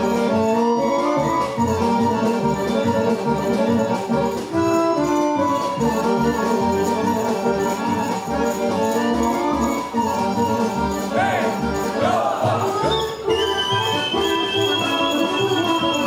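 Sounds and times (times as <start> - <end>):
folk dance music: 0.0 - 16.0.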